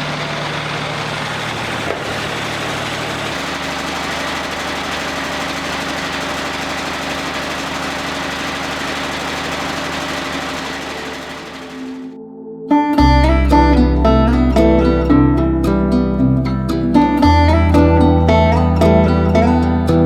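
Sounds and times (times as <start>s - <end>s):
sawmill diesel engine running: 0.0s - 12.2s, 13.0s - 20.0s.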